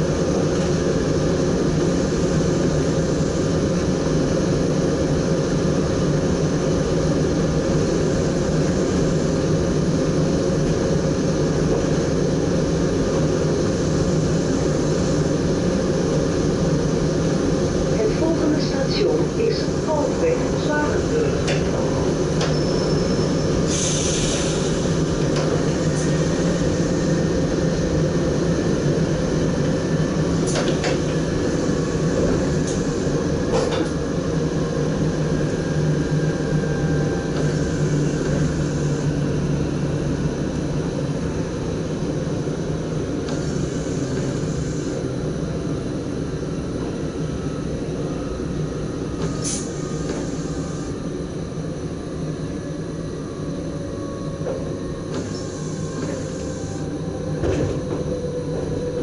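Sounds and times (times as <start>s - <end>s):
train wheels rumbling with hum: 0.0s - 59.0s.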